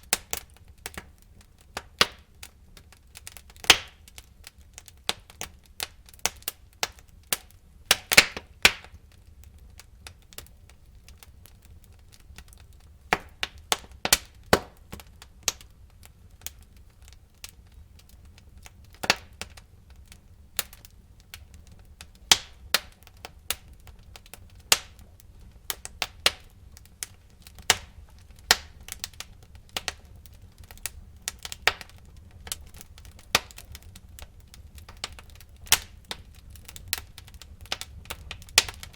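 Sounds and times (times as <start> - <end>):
low rumble of fire: 0.0 - 38.9
wood fire crackling: 0.0 - 38.9
sharp pops and snaps: 0.1 - 9.0, 9.8 - 15.7, 16.4 - 38.9.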